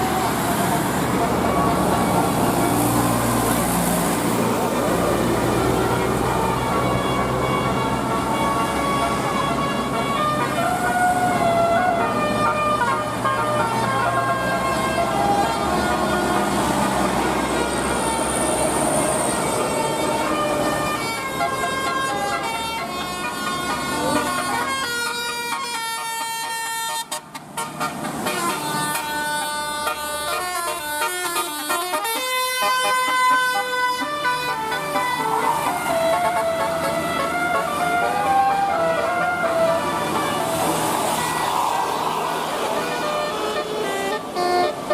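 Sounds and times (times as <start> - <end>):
bus horn playing a tune: 0.0 - 44.9.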